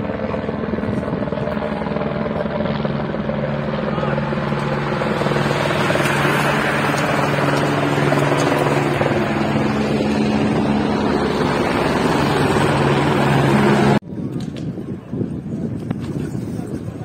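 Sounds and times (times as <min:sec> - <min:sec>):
loud engine drone: 0:00.0 - 0:14.0.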